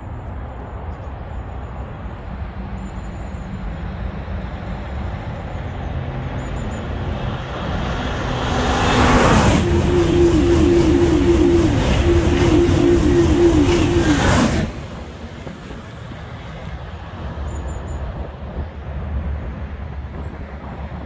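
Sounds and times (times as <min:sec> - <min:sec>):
high-speed train passing: 0:00.0 - 0:21.0
motorway traffic hum: 0:00.0 - 0:21.0.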